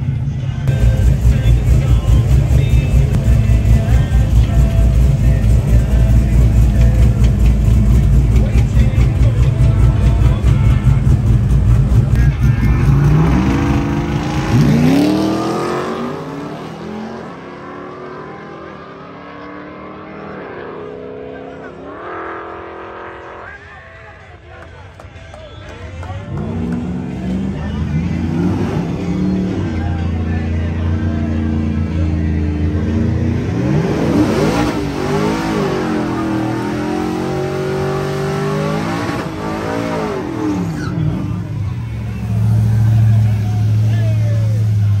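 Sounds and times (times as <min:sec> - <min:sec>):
race engine at full throttle: 0:00.0 - 0:45.0.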